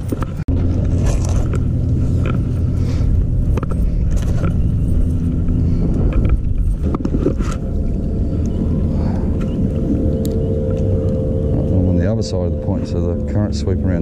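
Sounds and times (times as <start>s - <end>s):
engine hum: 0.0s - 14.0s.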